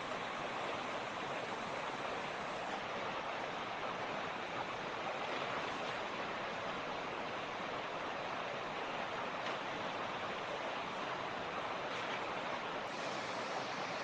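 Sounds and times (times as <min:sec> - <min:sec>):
creek splashing over stones: 0:00.0 - 0:14.0.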